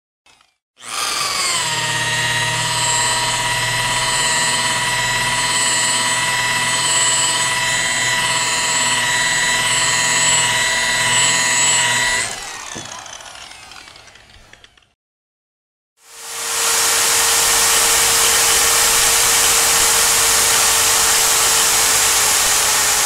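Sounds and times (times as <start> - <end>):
power tool motor whining: 0.3 - 15.0, 16.0 - 23.0.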